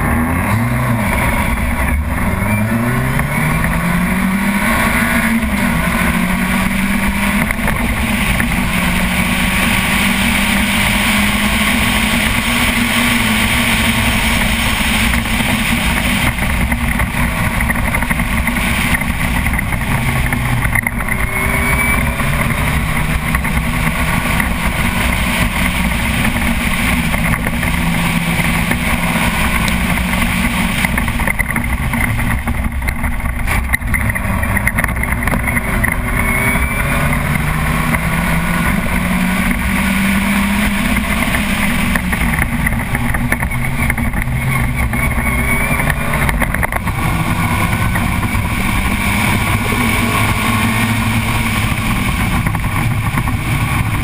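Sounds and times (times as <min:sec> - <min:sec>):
racing car engine accelerating: 0:00.0 - 0:54.0.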